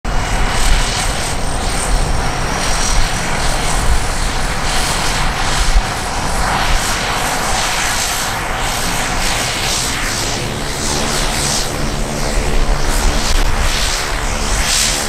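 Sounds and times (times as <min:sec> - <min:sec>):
turboprop engine running: 0:00.0 - 0:15.0.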